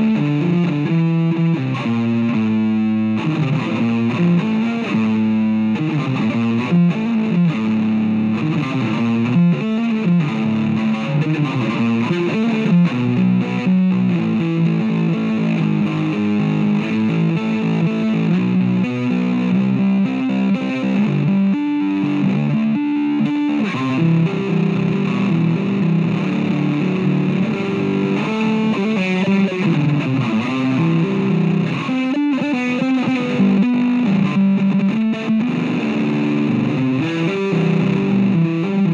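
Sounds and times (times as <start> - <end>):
electric bass guitar plucked: 0.0 - 38.9.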